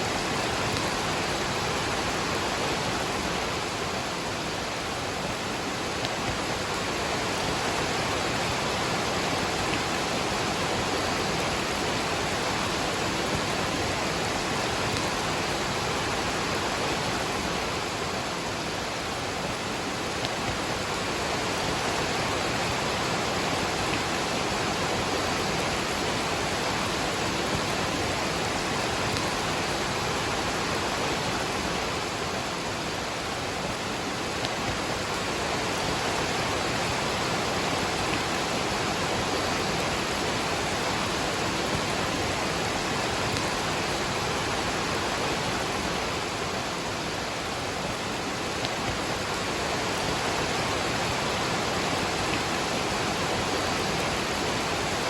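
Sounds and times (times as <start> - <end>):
rain falling: 0.0 - 55.0
waterfall rushing: 0.0 - 55.0.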